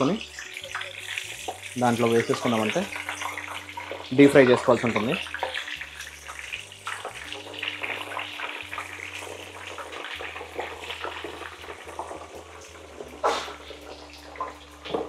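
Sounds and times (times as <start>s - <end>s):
vegetables deep-frying in oil: 0.0s - 15.0s.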